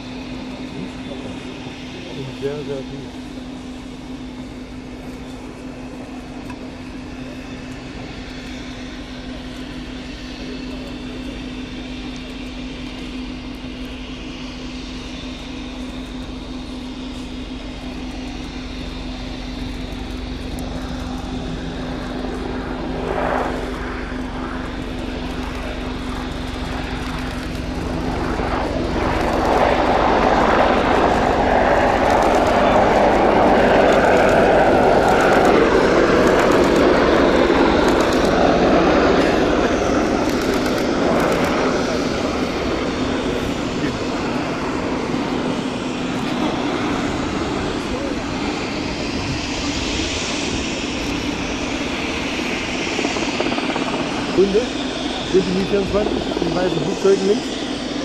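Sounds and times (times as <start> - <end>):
helicopter rotor and engines: 0.0 - 58.0.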